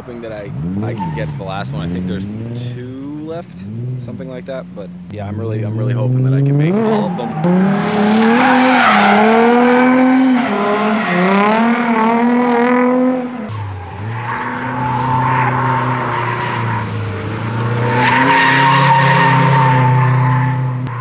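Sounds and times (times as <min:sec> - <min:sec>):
car engine revving: 0:00.0 - 0:21.0
tires squealing: 0:00.0 - 0:21.0.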